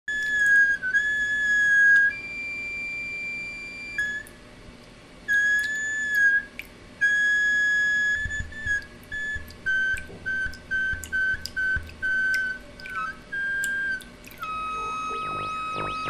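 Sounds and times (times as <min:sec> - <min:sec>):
faucet whistling: 0:00.1 - 0:04.5, 0:05.3 - 0:16.0.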